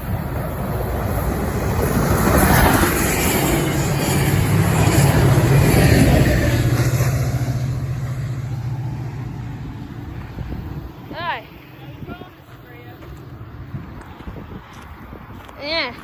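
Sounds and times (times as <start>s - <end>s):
locomotive engine drone: 0.0s - 15.2s
train wheels rumbling on rail: 0.0s - 16.0s.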